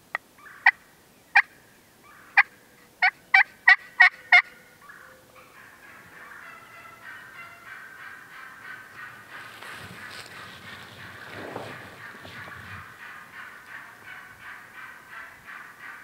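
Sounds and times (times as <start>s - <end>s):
turkey hen yelping: 0.4s - 0.8s, 1.4s - 16.0s.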